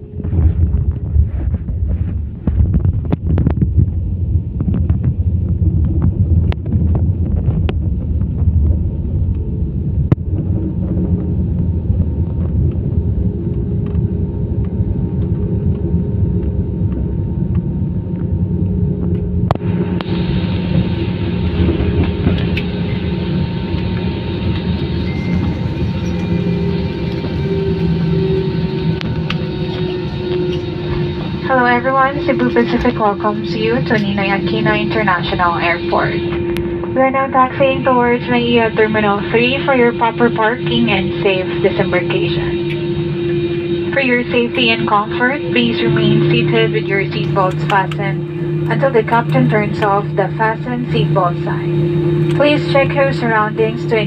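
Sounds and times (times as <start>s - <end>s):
low rumble of airliner cabin: 0.0s - 54.0s
steady jet engine tones: 0.0s - 54.0s.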